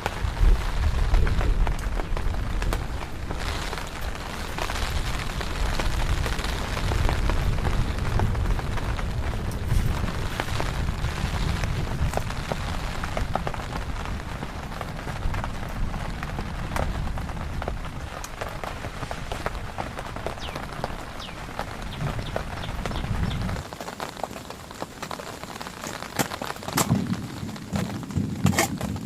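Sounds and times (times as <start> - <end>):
heavy rain striking a surface: 0.0 - 29.0.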